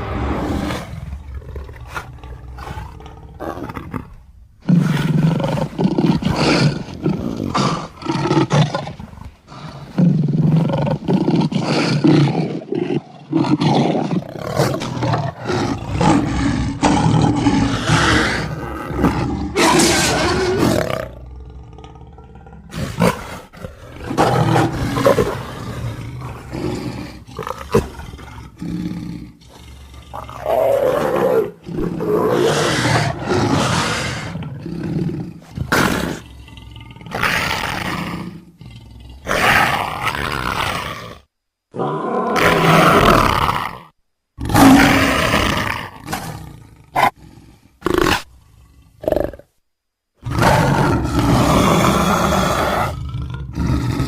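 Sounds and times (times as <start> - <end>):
big cat roaring and snarling: 0.0 - 49.5, 50.2 - 54.0.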